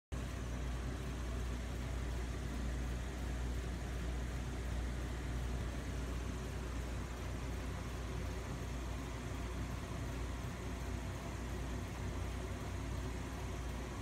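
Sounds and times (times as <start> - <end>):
low equipment hum: 0.1 - 14.0.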